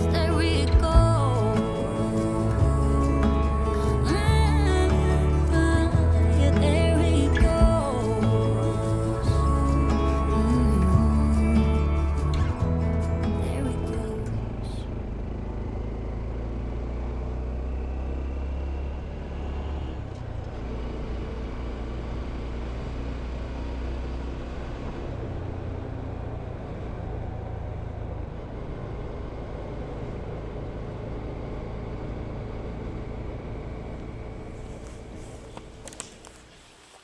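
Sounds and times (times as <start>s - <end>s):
motorcycle engine rumbling: 0.0s - 37.0s.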